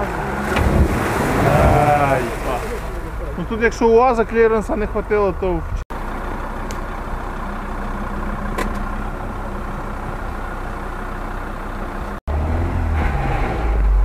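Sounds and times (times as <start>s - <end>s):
wheels churning through mud and water: 0.0s - 12.2s
deep engine rumble: 0.0s - 14.0s
engine running under load: 0.0s - 14.0s.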